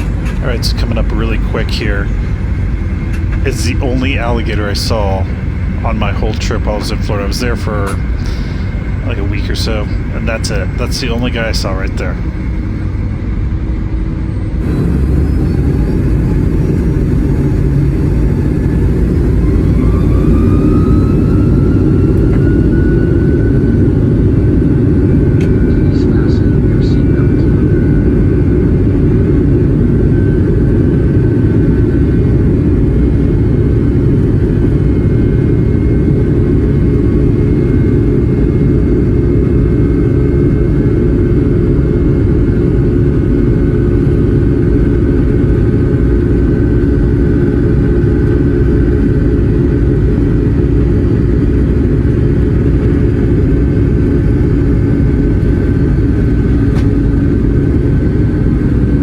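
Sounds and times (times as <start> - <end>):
airplane cabin engine rumble: 0.0 - 59.0
faint steady whine: 0.0 - 59.0.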